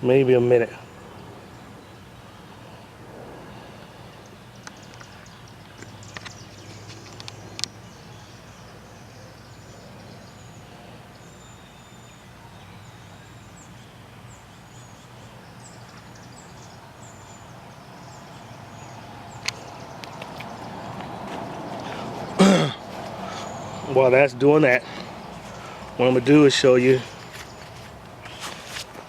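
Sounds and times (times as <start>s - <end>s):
small birds chirping: 0.0s - 29.0s
steady low hum: 0.0s - 29.0s.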